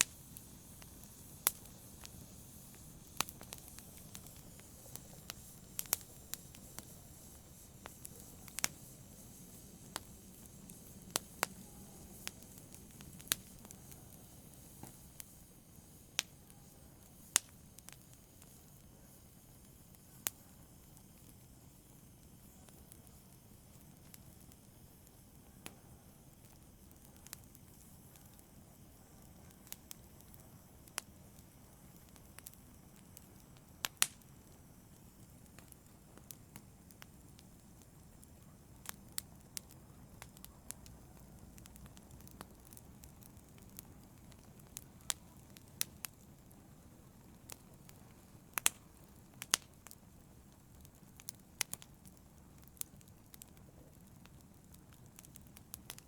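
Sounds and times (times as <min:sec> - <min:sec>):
low rush of burning: 0:00.0 - 0:56.0
wood fire crackling: 0:00.0 - 0:56.0.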